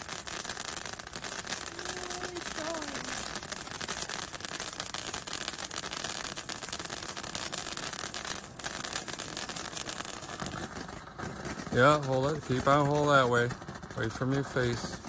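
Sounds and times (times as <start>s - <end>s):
firework fountain hissing and crackling: 0.0s - 15.0s.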